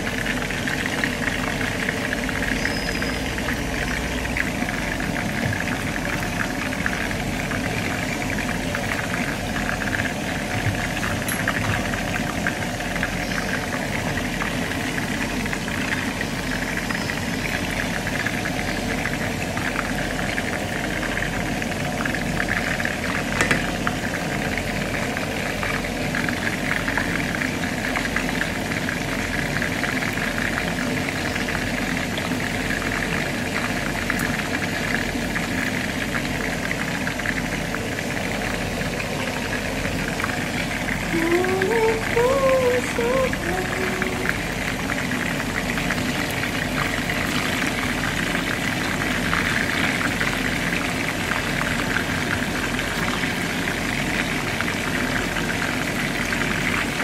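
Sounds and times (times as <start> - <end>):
meat sizzling in hot oil: 0.0 - 41.8, 43.8 - 57.0.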